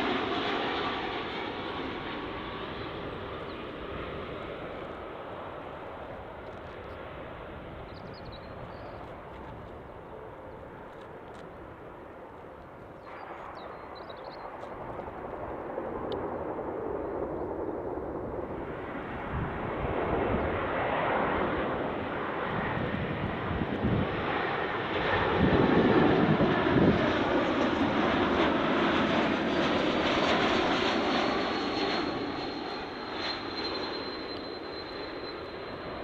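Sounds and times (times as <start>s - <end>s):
high jet engine whine: 0.0s - 36.0s
jet airliner passing overhead: 0.0s - 36.0s.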